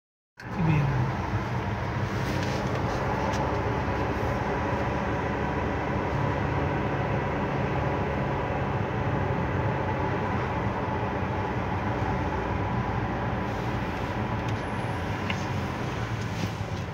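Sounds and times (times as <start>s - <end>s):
car cabin engine and road hum: 0.4s - 16.9s.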